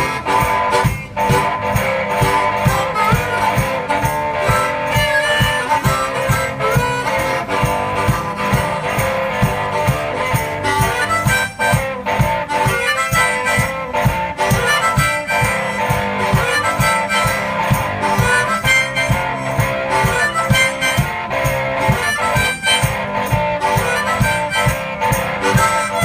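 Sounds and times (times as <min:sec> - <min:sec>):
harmonica wailing: 0:00.0 - 0:26.0
steady low beat: 0:00.0 - 0:26.0
strummed acoustic guitar: 0:00.0 - 0:26.0.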